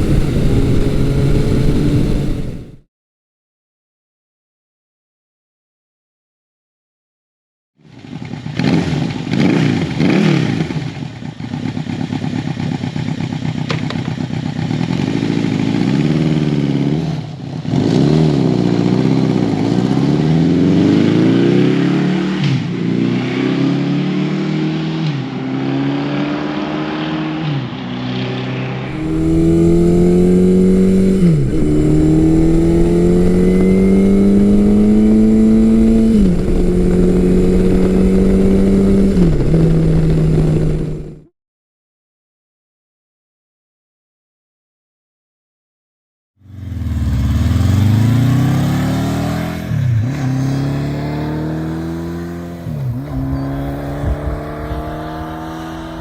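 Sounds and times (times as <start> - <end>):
motorcycle engine accelerating: 0.0 - 2.9, 7.8 - 41.3, 46.4 - 56.0.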